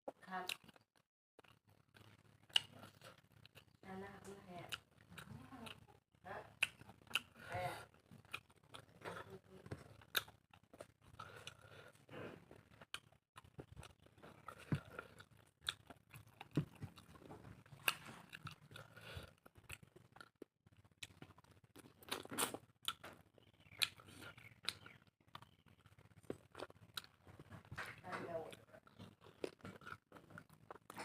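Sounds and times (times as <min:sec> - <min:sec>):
chewing and biting food: 0:00.4 - 0:03.8, 0:04.6 - 0:31.0.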